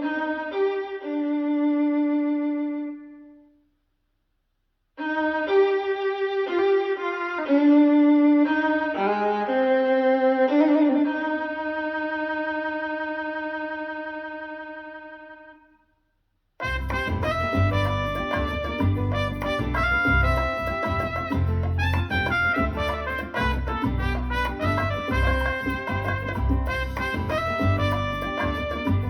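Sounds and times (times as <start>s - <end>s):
violin music through speakers: 0.0s - 3.1s, 5.0s - 15.4s, 16.7s - 29.0s.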